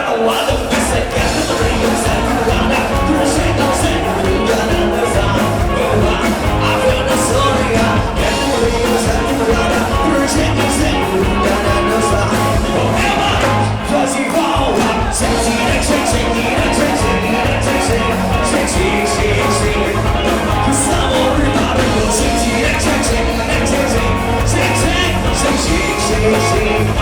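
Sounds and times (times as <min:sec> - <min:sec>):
live rock band: 0:00.0 - 0:27.0
person singing: 0:00.0 - 0:27.0
drums beating: 0:00.3 - 0:27.0.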